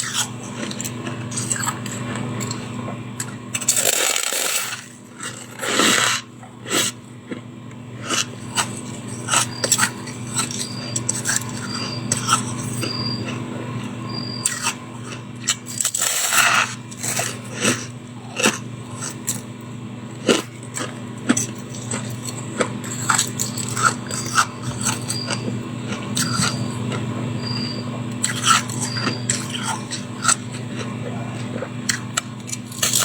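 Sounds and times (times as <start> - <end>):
chewing crunchy ice: 0.0 - 33.0
steady low hum: 0.0 - 33.0.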